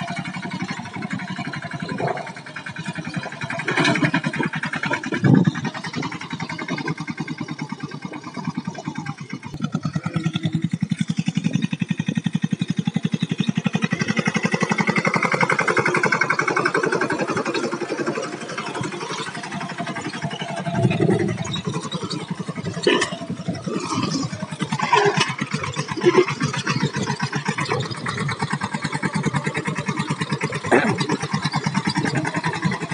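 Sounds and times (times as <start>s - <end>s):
tractor engine under load: 0.0s - 32.9s.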